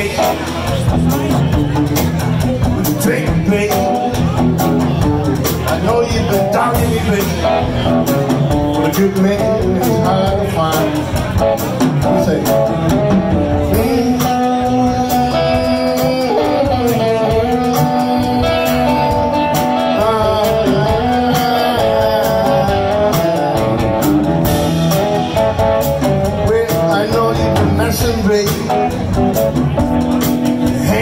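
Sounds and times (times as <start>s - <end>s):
drums: 0.0s - 31.0s
electric guitar: 0.0s - 31.0s
upright bass: 0.0s - 31.0s.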